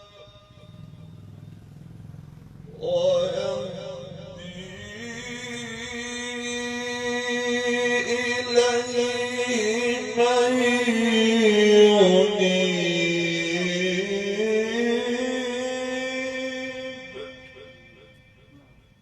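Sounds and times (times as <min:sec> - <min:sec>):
man reciting melodically: 0:00.0 - 0:01.1, 0:02.6 - 0:18.9.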